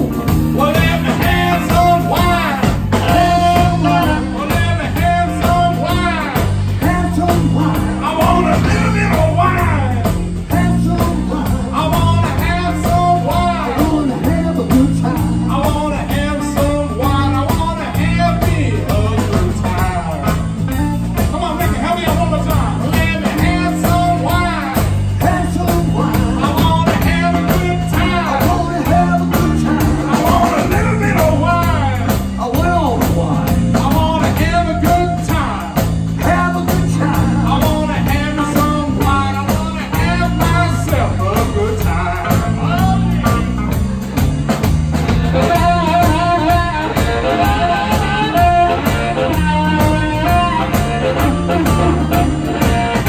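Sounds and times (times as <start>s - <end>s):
blues harmonica: 0.0s - 53.0s
drum kit: 0.0s - 53.0s
electric bass: 0.0s - 53.0s
electric guitar: 0.0s - 53.0s.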